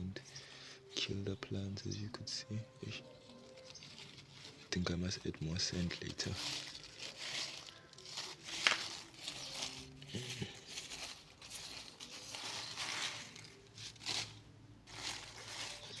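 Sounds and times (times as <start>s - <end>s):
dry leaves rustling and crunching: 1.0s - 16.0s.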